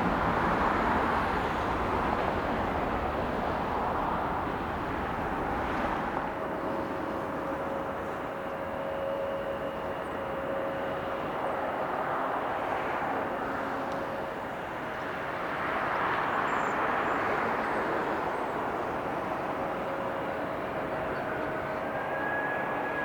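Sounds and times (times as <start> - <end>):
jet airliner roar: 0.0 - 23.0.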